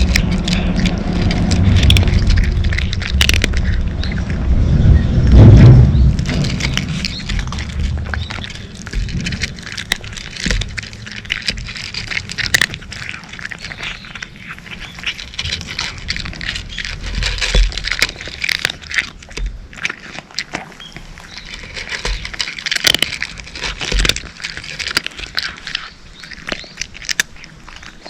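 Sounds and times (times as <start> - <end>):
cats crunching dry kibble: 0.0 - 28.0.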